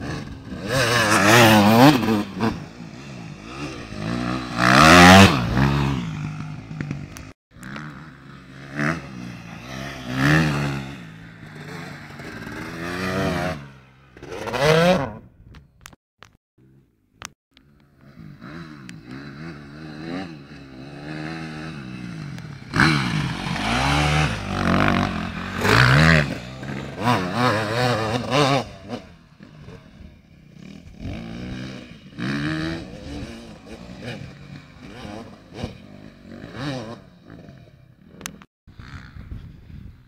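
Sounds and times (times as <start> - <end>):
dirt bike engine revving: 0.0 - 15.2, 17.6 - 39.1.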